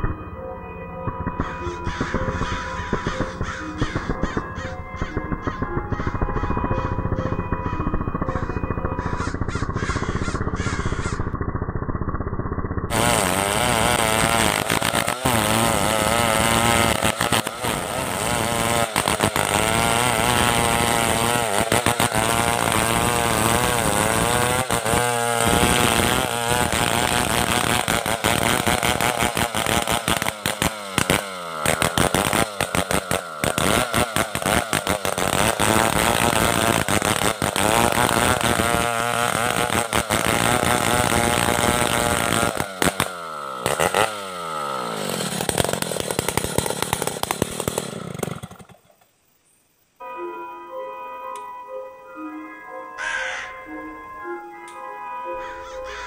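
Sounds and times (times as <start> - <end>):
chainsaw ripping a log: 1.4 - 48.9.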